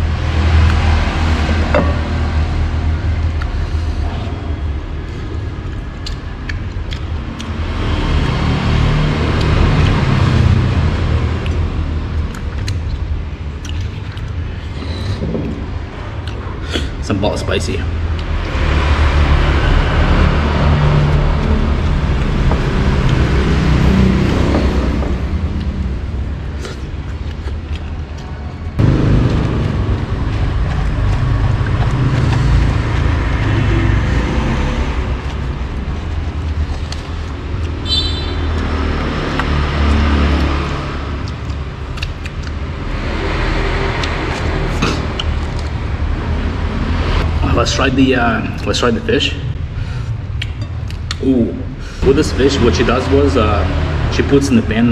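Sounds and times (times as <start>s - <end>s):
road traffic rumbling: 0.0s - 54.9s.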